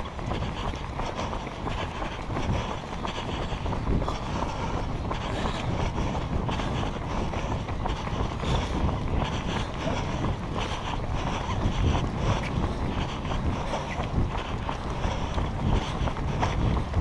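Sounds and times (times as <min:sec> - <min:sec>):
runner's footfalls: 0:00.0 - 0:17.0
wind rumble on microphone: 0:00.0 - 0:17.0.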